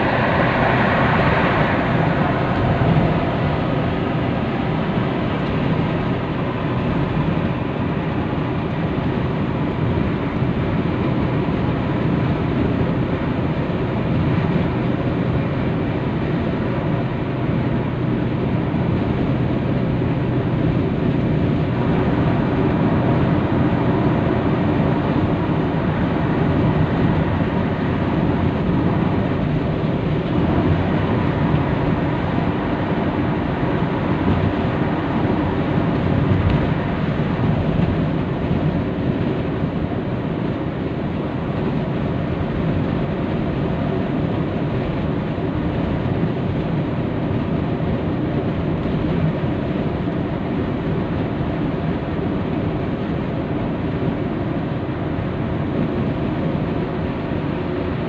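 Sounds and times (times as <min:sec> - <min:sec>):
car engine: 0:00.0 - 0:58.0
tyres on road: 0:00.0 - 0:58.0.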